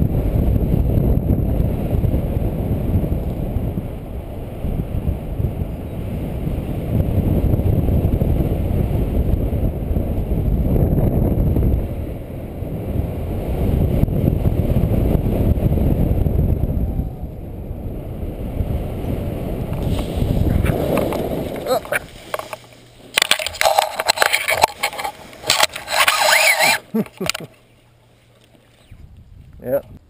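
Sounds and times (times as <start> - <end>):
wind buffeting microphone: 0.0 - 27.4, 28.7 - 30.0.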